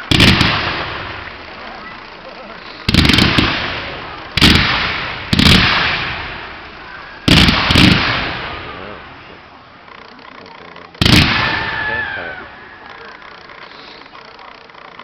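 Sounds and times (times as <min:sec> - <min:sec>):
fireworks booming: 0:00.0 - 0:10.1, 0:11.0 - 0:14.2.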